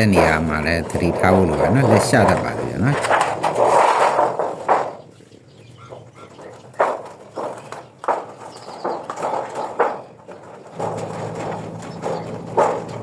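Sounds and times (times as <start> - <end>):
hand shears snipping metal sheet: 0.0 - 5.0, 6.8 - 13.0.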